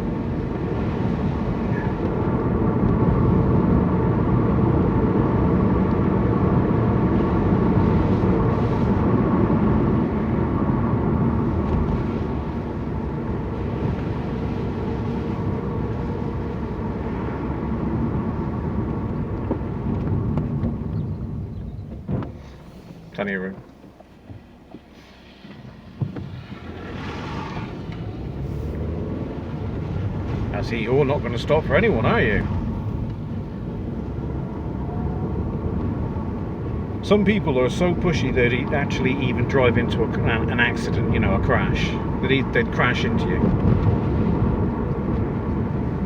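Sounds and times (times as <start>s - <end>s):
car engine and road noise: 0.0s - 46.0s.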